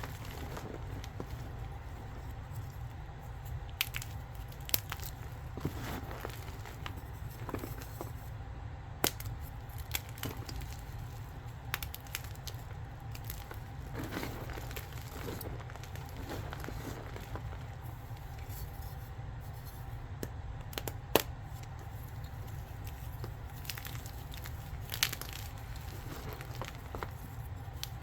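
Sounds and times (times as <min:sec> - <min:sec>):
chalk crunching and crackling: 0:00.0 - 0:08.4, 0:09.0 - 0:28.0.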